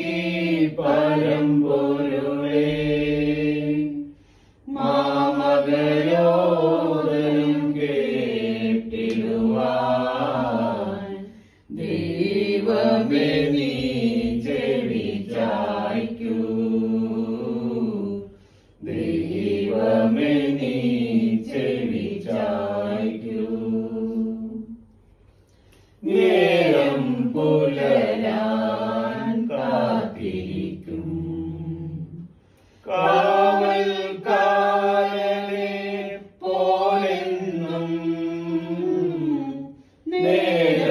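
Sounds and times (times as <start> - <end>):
choir singing a slow hymn: 0.0 - 24.9, 26.0 - 40.9.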